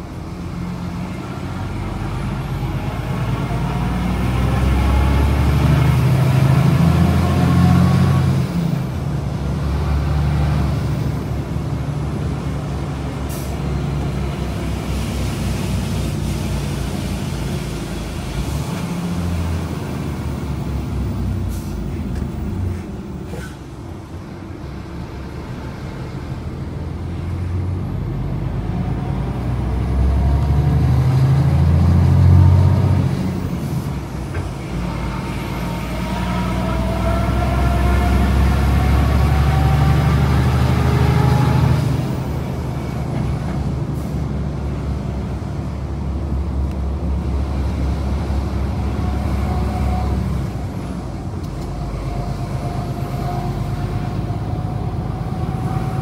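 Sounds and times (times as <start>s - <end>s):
truck diesel engine accelerating: 0.0s - 56.0s.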